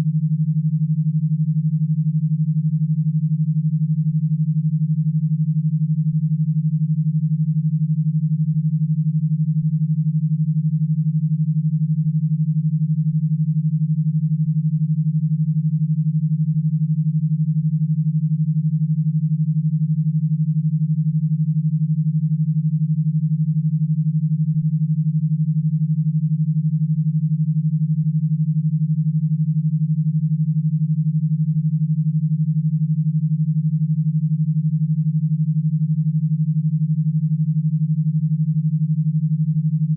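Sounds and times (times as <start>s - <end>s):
pulsing low electronic tone: 0.0s - 39.9s.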